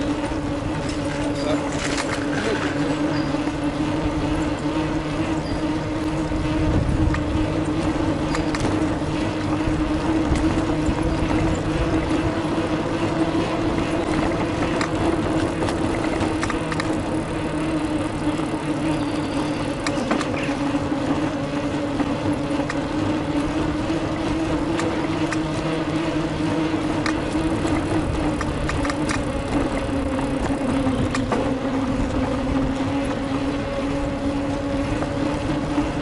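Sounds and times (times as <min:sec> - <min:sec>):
bicycle riding hum and rumble: 0:00.0 - 0:36.0
small clicks and rattles: 0:00.0 - 0:36.0.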